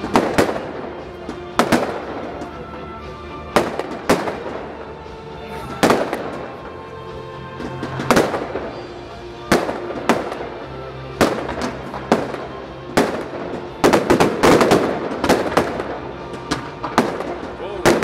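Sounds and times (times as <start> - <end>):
fireworks bangs with echo: 0.0 - 6.8, 7.5 - 18.0.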